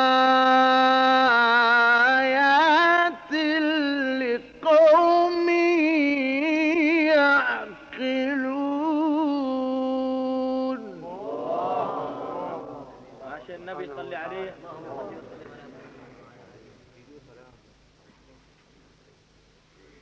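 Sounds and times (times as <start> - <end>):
man reciting melodically: 0.0 - 16.5.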